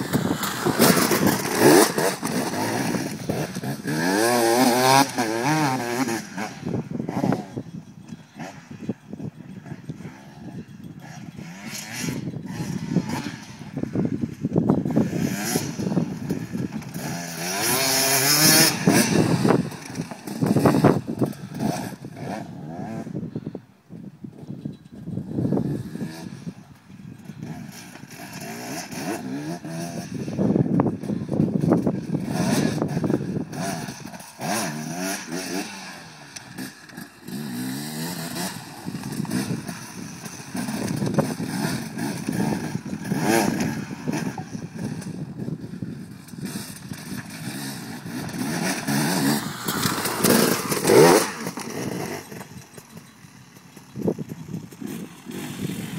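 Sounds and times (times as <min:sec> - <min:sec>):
dirt bike engine revving: 0:00.0 - 0:23.3, 0:27.2 - 0:55.9.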